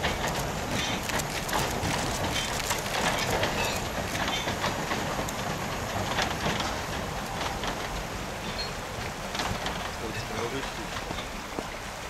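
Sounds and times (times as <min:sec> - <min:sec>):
train wheels clacking on rails: 0:00.0 - 0:11.8.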